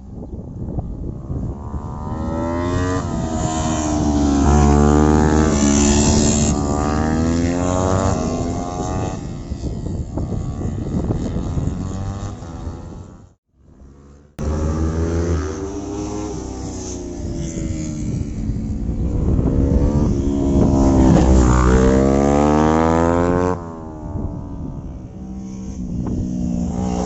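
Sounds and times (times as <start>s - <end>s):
motorcycles passing at high revs: 0.0s - 27.0s.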